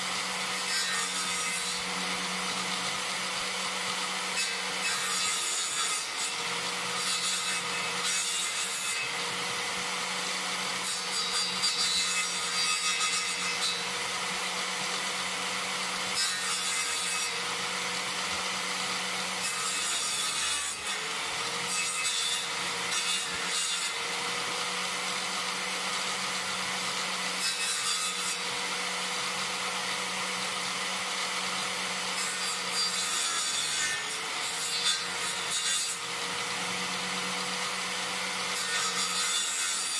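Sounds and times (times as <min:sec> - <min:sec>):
saw rasping through log: 0:00.0 - 0:39.9
table saw motor humming: 0:00.0 - 0:39.9.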